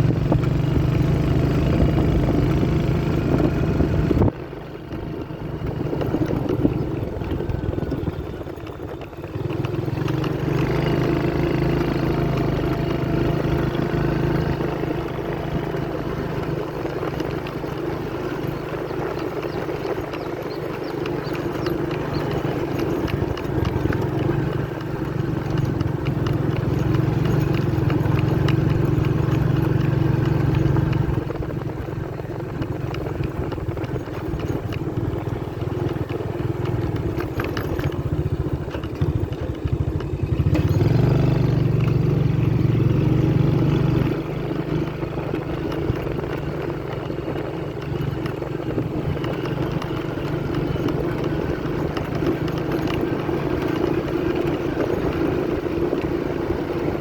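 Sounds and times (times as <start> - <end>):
motorcycle engine off-road: 0.0 - 57.0.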